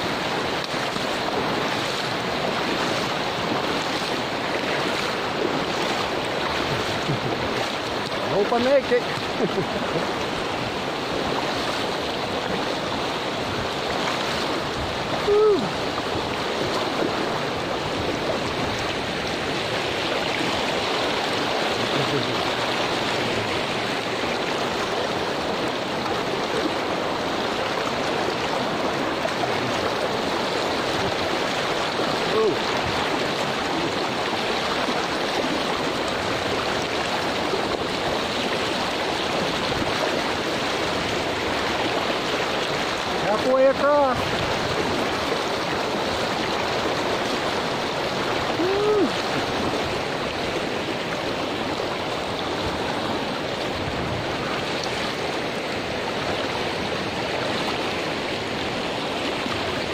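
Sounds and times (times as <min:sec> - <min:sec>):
river rapids rushing over rocks: 0:00.0 - 0:59.9.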